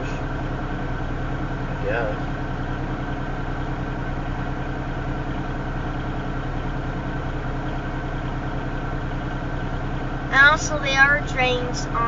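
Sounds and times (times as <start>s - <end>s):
locomotive engine idling: 0.0s - 12.0s.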